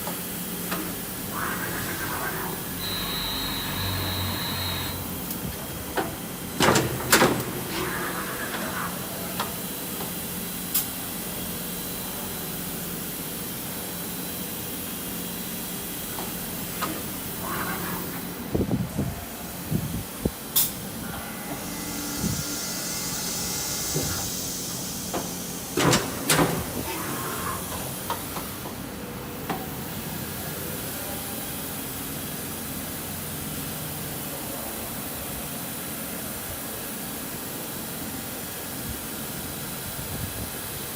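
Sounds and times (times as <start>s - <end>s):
machine hiss over low hum: 0.0s - 40.9s.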